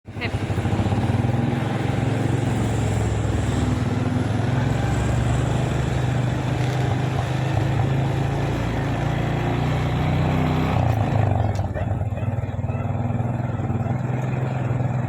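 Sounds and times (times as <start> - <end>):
motorcycle engine running: 0.1 - 15.0
road noise: 0.1 - 15.0.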